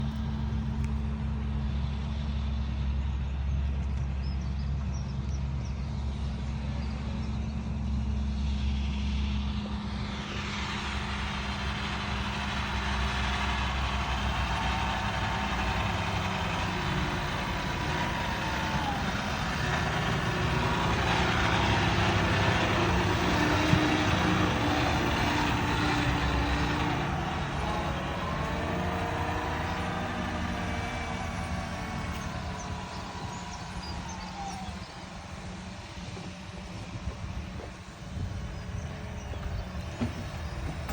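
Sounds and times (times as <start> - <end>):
tractor engines running: 0.0 - 40.9
loud machinery noise: 6.3 - 40.9.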